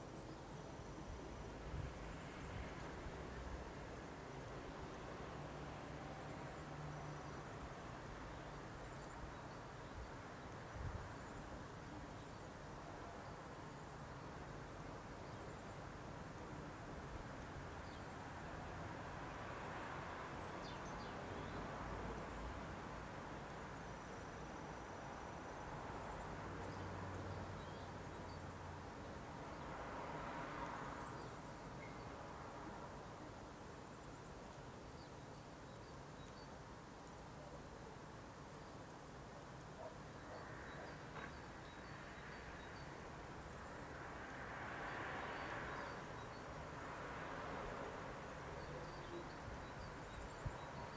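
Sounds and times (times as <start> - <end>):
low hiss: 0.0 - 50.9.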